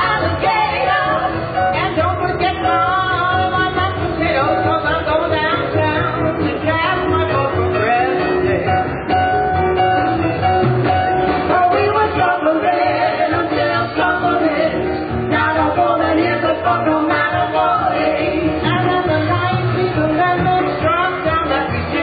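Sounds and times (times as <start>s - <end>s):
bass line: 0.0s - 22.0s
person singing with live band: 0.0s - 22.0s.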